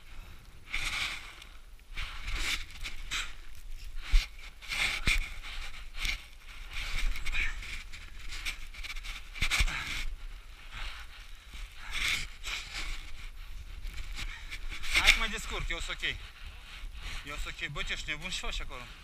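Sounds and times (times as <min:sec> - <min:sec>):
person panting: 0:00.0 - 0:18.1
wind rumble on microphone: 0:00.0 - 0:19.0.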